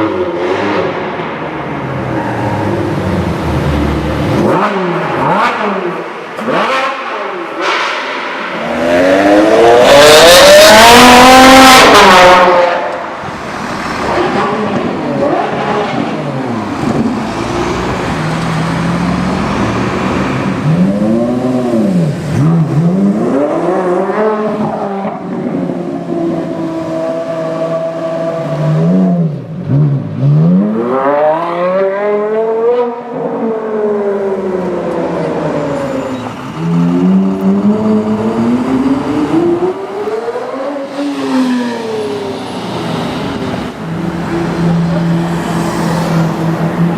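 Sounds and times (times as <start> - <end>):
supercar engines revving: 0.0 - 46.9.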